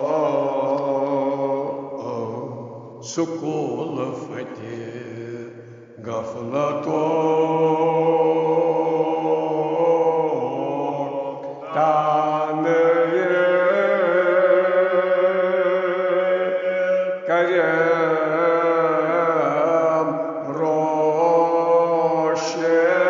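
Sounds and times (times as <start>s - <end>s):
elderly man chanting: 0.0s - 23.0s.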